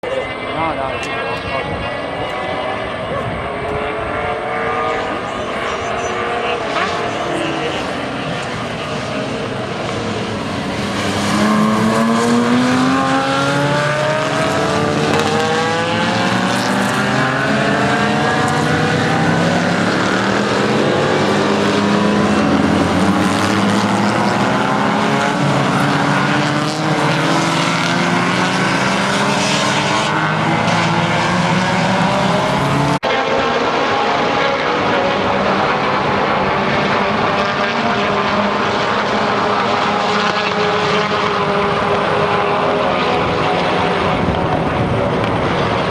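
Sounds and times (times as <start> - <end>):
racing car engines at full throttle: 0.0 - 45.9.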